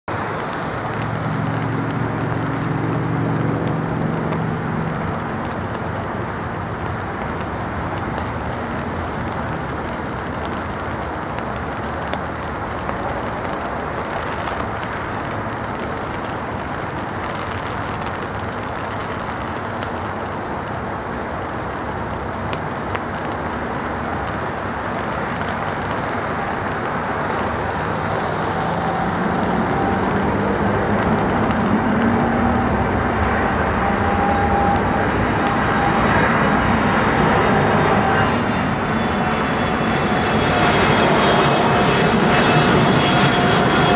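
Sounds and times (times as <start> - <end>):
jet engines on approach: 0.1 - 43.9.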